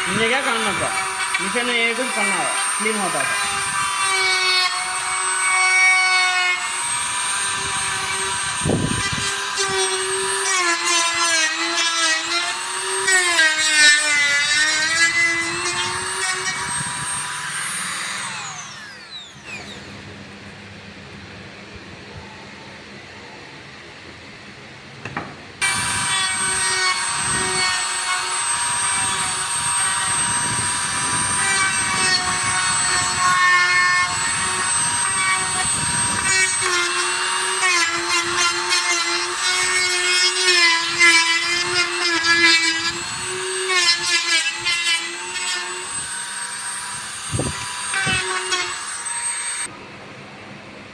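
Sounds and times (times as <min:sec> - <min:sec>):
machine cutters whining: 0:00.0 - 0:20.2, 0:25.6 - 0:49.7.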